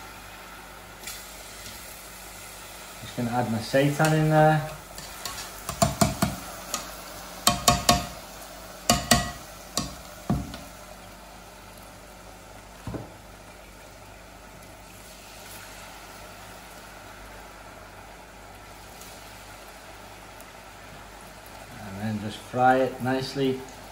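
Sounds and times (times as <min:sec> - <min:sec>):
food deep-frying in hot oil: 0:00.0 - 0:23.9.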